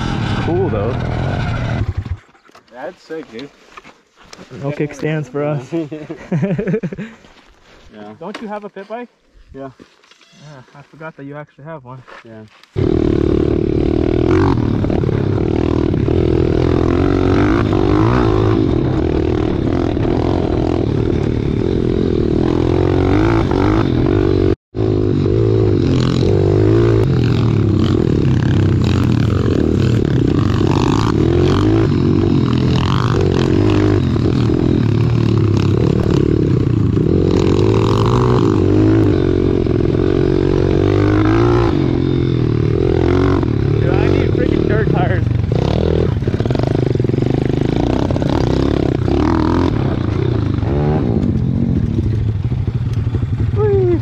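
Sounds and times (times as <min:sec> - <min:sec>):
motorbike engine revving: 0:00.0 - 0:02.4, 0:12.8 - 0:54.0.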